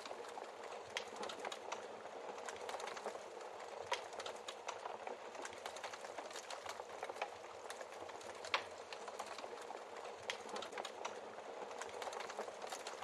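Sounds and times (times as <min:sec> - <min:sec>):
wood fire crackling: 0:00.0 - 0:13.0
burning logs popping: 0:02.4 - 0:13.0.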